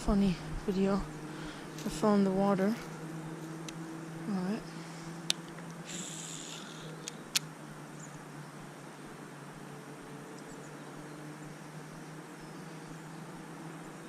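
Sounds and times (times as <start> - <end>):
faint outdoor hiss: 0.0 - 14.0
low hum: 0.0 - 14.0.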